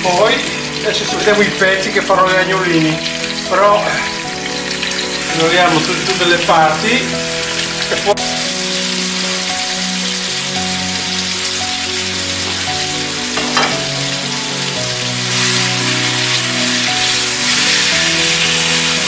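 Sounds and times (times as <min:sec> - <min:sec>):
meat sizzling in a frying pan: 0:00.0 - 0:19.0
soft background music: 0:00.0 - 0:19.0.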